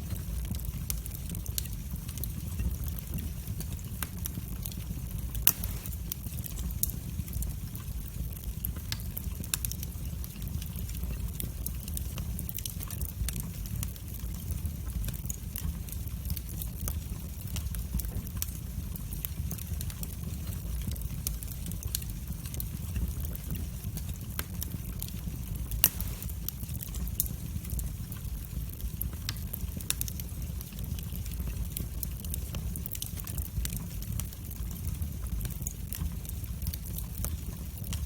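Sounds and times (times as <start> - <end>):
fire crackles and pops: 0.0 - 38.0
wood fire burning: 0.0 - 38.0.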